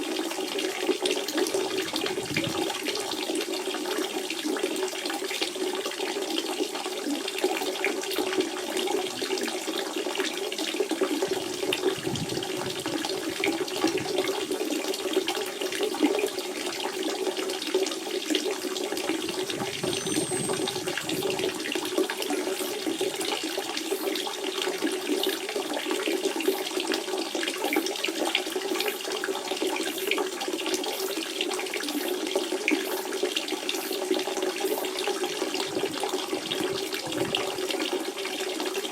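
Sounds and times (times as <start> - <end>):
spring water running and trickling: 0.0 - 38.9.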